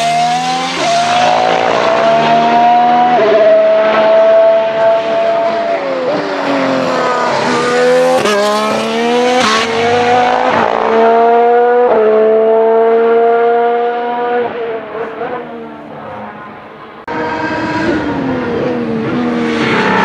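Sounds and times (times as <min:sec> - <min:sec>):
racing car engine at high revs: 0:00.0 - 0:20.0.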